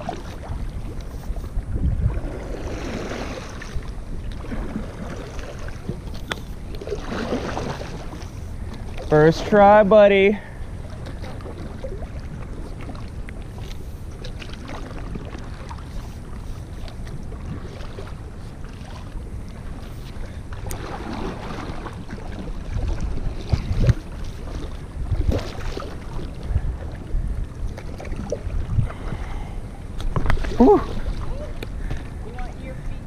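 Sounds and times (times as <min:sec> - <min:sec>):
paddle strokes splashing in water: 0:00.0 - 0:32.8
wind rumble on microphone: 0:00.0 - 0:33.0.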